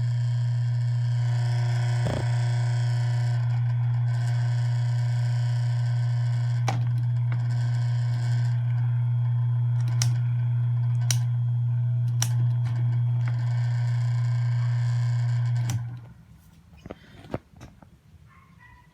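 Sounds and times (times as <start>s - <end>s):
electric fan motor hum: 0.0s - 16.6s.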